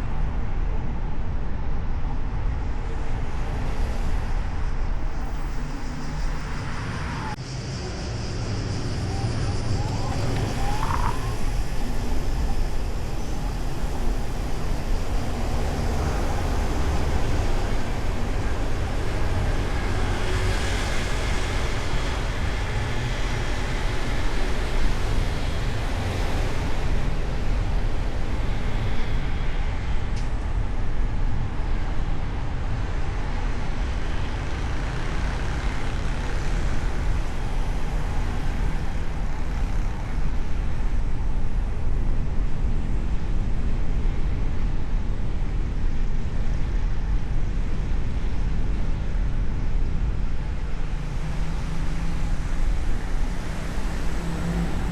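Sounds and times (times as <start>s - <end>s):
car engine and tyre rumble: 0.0s - 54.9s
surrounding traffic: 0.0s - 54.9s.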